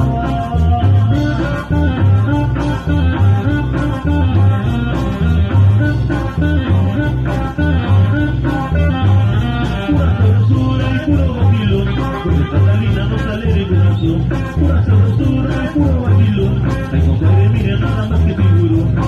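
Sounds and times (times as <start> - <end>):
latin dance band playing: 0.0 - 19.0.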